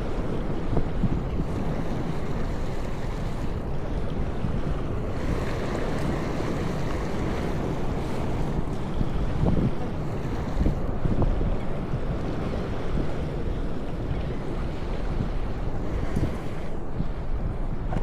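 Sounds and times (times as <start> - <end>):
surf: 0.0 - 18.0
wind buffeting microphone: 0.0 - 18.0.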